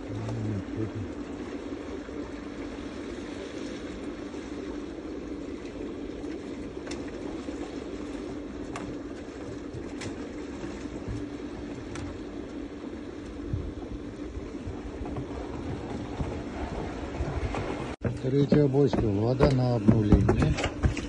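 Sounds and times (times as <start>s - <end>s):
machine drone with low hum: 0.0s - 21.0s.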